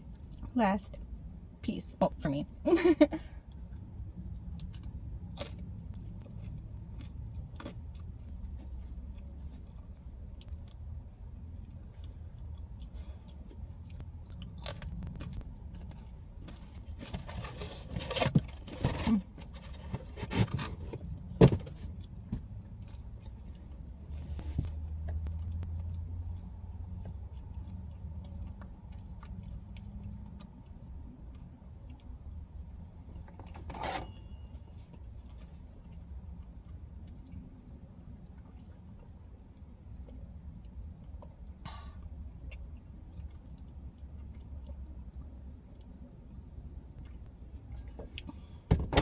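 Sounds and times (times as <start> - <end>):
person chewing pizza crust: 3.3 - 33.3, 34.9 - 48.6.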